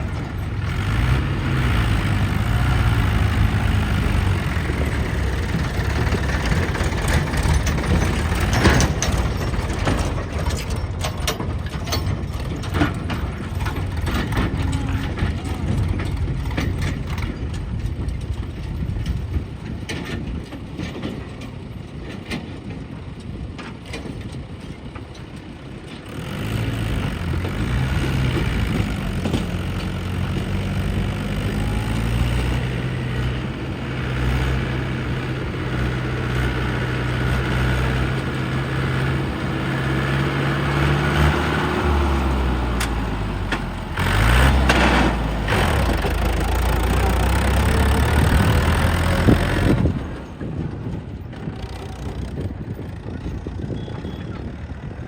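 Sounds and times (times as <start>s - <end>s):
diesel engines working: 0.0s - 55.0s.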